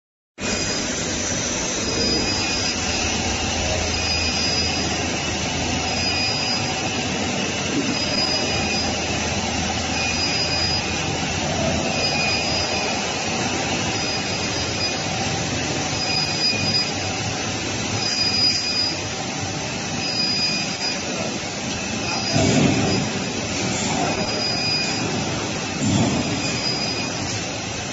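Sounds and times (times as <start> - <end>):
industrial drone and hiss: 0.4 - 27.9.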